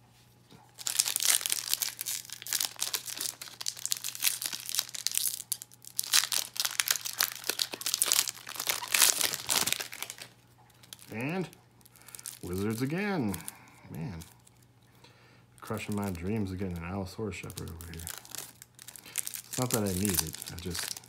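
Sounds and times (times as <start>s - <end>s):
foil wrapper tearing and crinkling: 0.8s - 14.7s, 15.6s - 21.0s.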